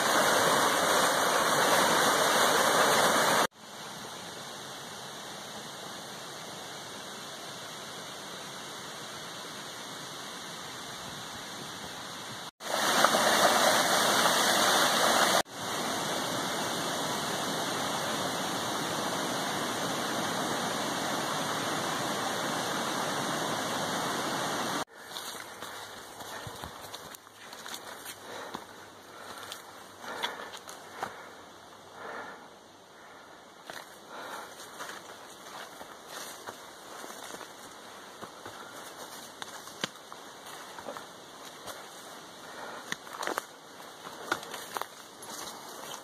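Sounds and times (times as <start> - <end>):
stream rushing over boulders: 0.0 - 31.9, 33.5 - 46.0.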